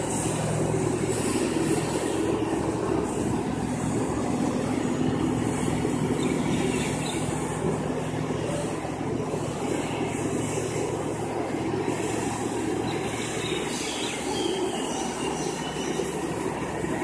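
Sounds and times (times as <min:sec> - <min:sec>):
airliner mechanical drone and whine: 0:00.0 - 0:17.0.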